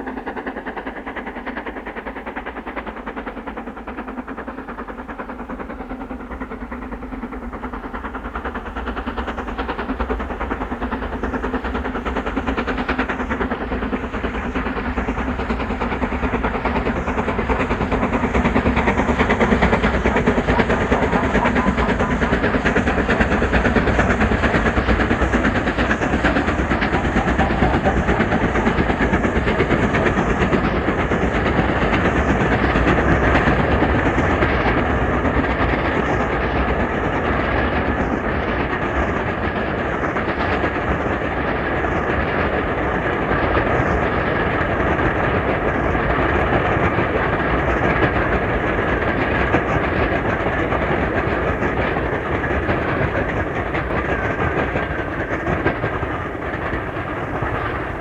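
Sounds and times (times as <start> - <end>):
clickety-clack of rail joints: 0.0 - 58.0
train wheels rolling on rail: 0.0 - 58.0.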